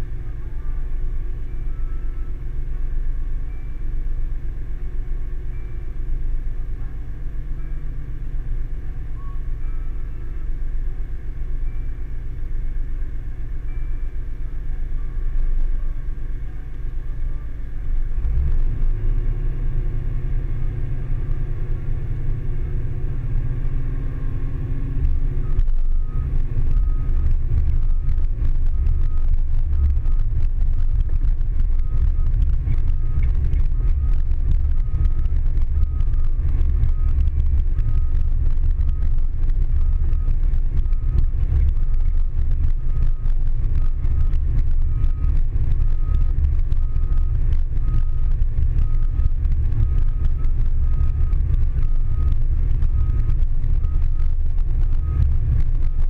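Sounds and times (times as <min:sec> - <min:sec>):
diesel engines rumbling: 0:00.0 - 0:56.0
faint repeating beep: 0:00.0 - 0:56.0.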